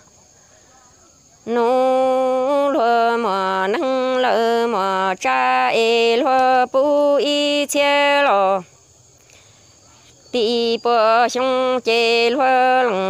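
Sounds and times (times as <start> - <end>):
person singing wavering chant: 0.7 - 8.7, 10.0 - 13.0.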